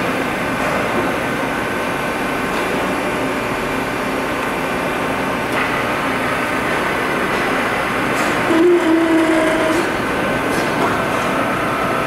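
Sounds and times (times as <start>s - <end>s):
industrial machine whirring hum: 0.0s - 12.0s.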